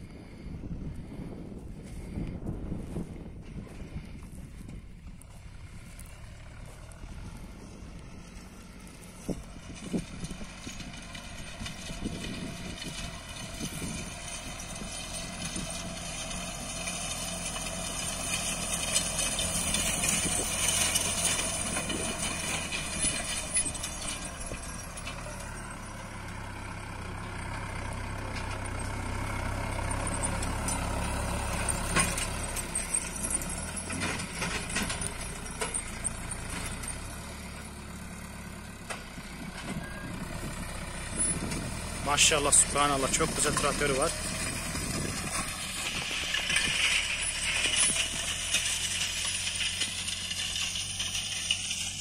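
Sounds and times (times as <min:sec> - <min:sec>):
tractor diesel engine under load: 0:00.0 - 0:52.0.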